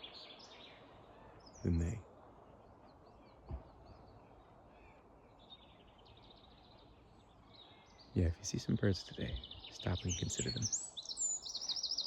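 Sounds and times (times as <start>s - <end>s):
faint songbirds chirping: 0.0s - 12.0s.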